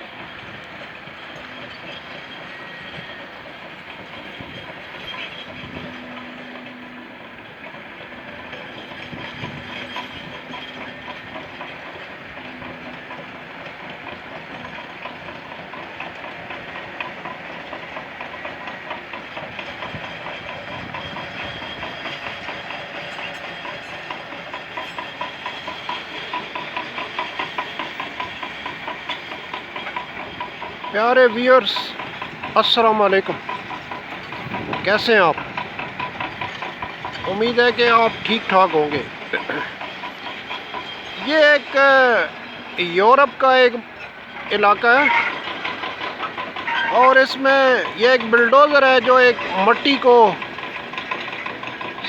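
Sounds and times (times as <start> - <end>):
bulldozer diesel engine under load: 0.0 - 52.0
bulldozer tracks clattering: 0.0 - 52.0.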